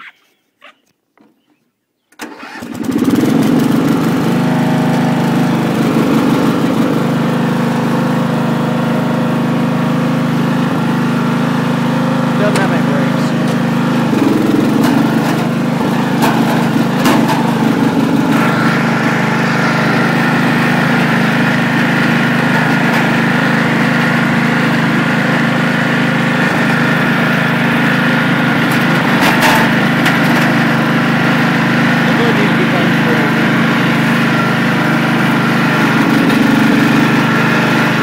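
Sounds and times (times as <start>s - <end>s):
lawn tractor engine running: 2.2s - 38.0s.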